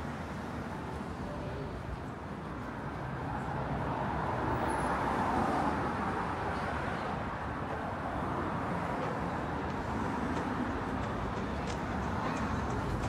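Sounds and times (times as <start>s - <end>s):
passing street traffic: 0.0s - 13.0s.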